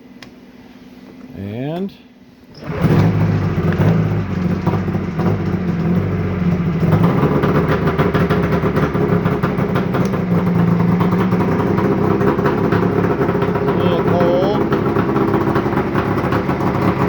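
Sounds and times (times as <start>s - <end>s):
snowmobile engine idling: 2.6s - 17.0s.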